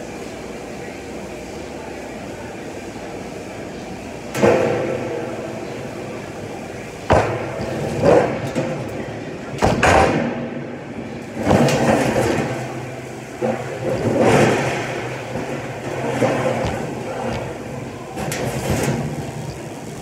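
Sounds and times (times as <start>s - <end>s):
steady shop hum: 0.0s - 20.0s.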